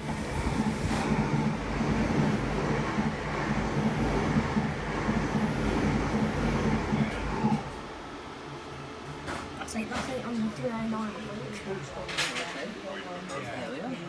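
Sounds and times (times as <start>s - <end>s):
train passing close by: 0.0s - 11.7s.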